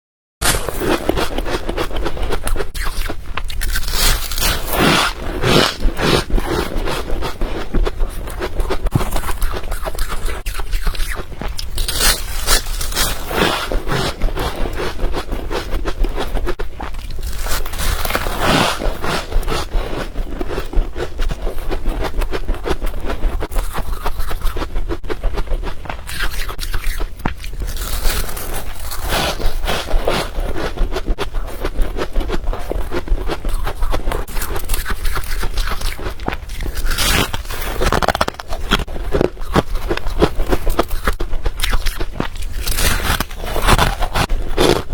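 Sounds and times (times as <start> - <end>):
person chewing crushed ice: 0.4 - 44.9.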